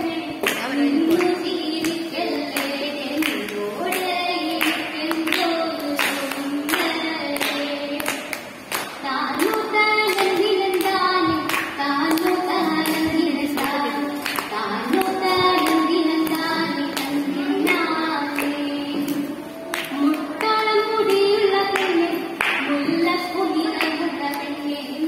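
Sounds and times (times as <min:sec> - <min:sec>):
girl singing into a microphone: 0:00.0 - 0:25.0
sharp hand claps: 0:00.4 - 0:17.2, 0:18.2 - 0:22.9.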